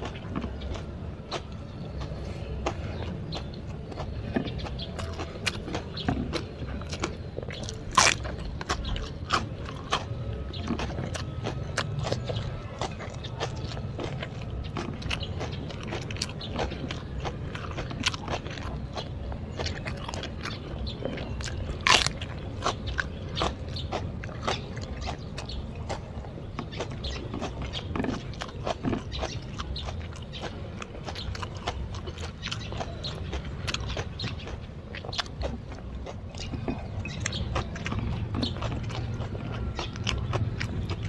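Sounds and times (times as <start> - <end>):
person chewing and crunching: 0.0 - 41.0.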